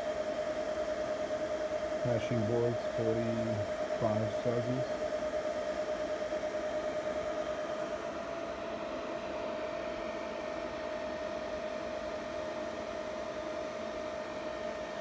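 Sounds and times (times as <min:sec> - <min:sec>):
cooling fans whining: 0:00.0 - 0:15.0.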